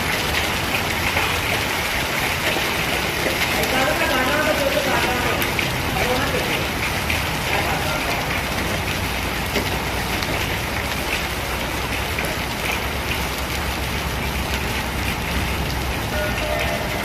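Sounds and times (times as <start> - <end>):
hail and rain pelting: 0.0 - 17.0.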